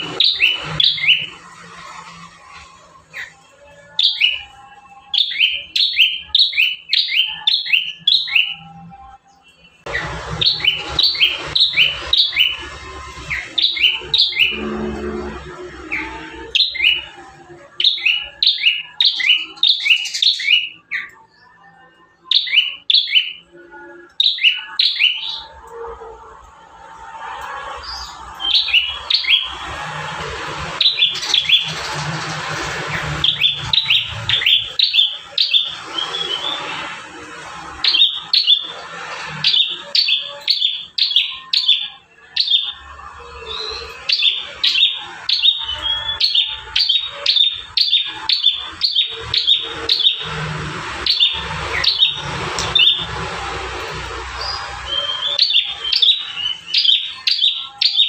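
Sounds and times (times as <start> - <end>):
bird chirping: 0.0 - 25.9, 27.2 - 58.0.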